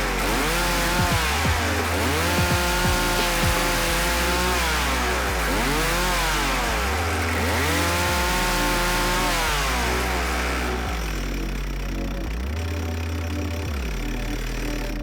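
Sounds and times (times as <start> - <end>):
chainsaw running at high revs: 0.0 - 15.0.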